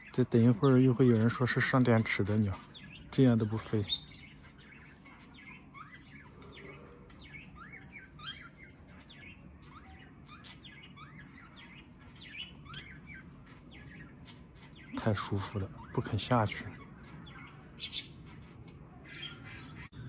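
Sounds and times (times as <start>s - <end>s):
young bird chirping softly: 0.0s - 20.0s.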